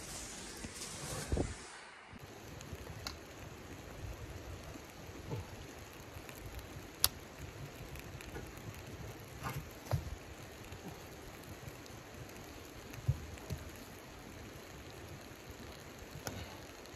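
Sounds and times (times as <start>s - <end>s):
kindling crackling: 0.0s - 16.9s.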